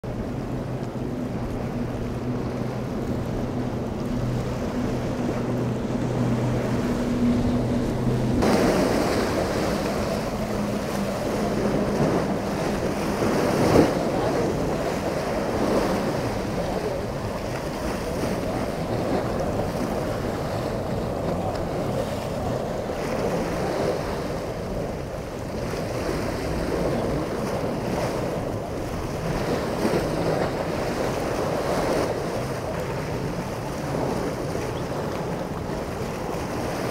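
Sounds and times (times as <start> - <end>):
boat engine idling: 0.0 - 36.9
water lapping and splashing: 0.0 - 36.9
wind buffeting microphone: 0.0 - 36.9.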